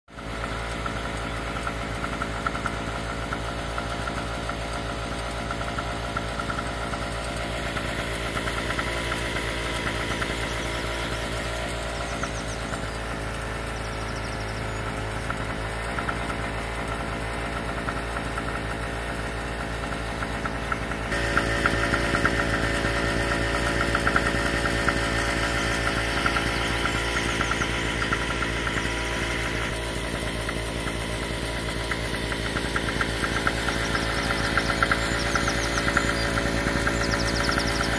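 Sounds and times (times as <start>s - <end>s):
motor engine running: 0.1s - 37.9s.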